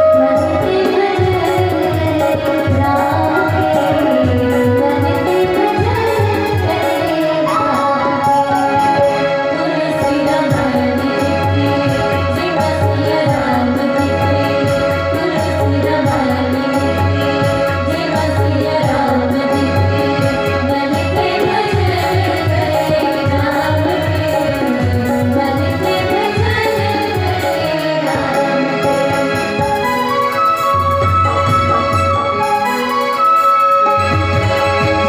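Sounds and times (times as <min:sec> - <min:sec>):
devotional music over loudspeakers: 0:00.0 - 0:35.0
keyboard chords: 0:00.0 - 0:35.0
tabla: 0:00.0 - 0:35.0.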